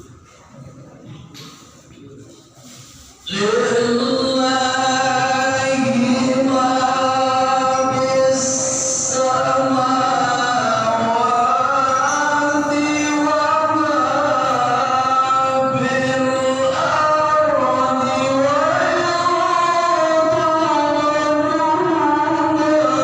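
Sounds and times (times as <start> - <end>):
man reciting melodically over loudspeaker: 0.0 - 23.0.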